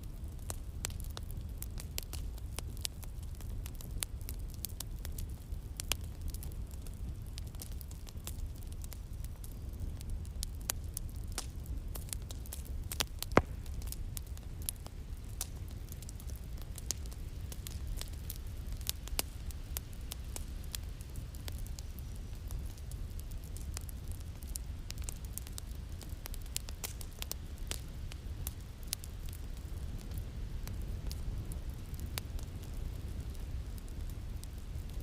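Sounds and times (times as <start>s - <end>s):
fireplace fire crackling: 0.0s - 35.0s.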